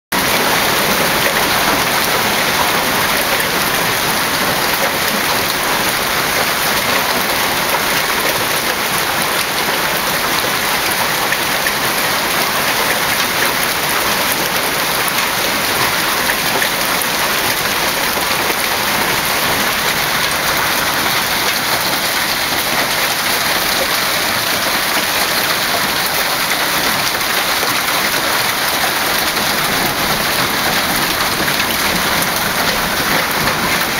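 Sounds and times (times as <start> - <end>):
hail and rain pelting down: 0.2 - 33.9.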